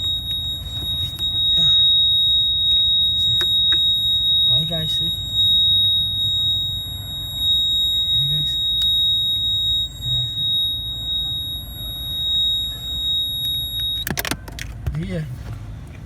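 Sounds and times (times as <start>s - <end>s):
high-pitched alarm buzzer: 0.0s - 14.0s.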